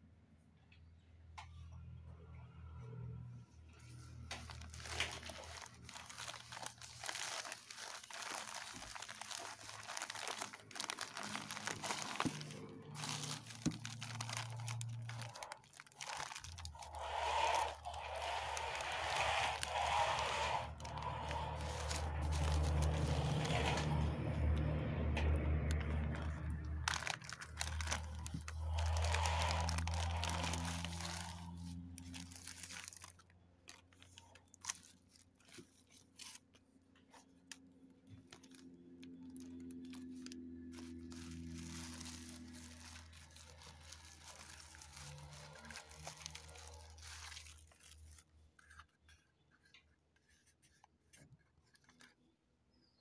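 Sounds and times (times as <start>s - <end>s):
plastic bag and bubble wrap crinkling: 3.8s - 52.3s.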